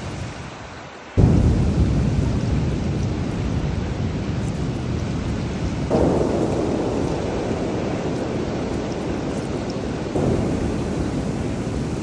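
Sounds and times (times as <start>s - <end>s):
steady rushing rain: 0.0s - 12.0s
thunder rumbling: 1.2s - 12.0s.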